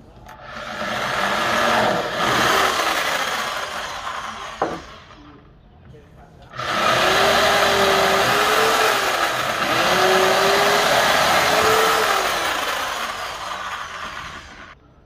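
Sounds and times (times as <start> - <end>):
electric drill boring into wood: 0.4 - 5.2, 6.6 - 14.8.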